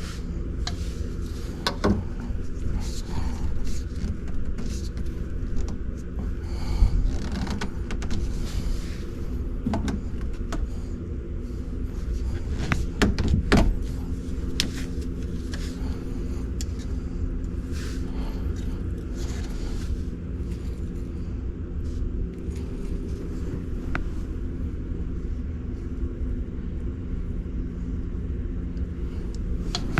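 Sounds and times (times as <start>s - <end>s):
machine humming: 0.0s - 29.9s.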